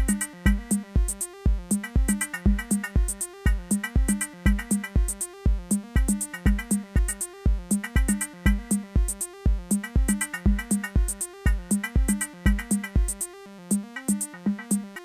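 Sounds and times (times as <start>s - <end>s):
four-on-the-floor kick drum: 0.0s - 14.9s
hi-hats: 0.0s - 15.0s
repeating synth line: 0.0s - 15.0s.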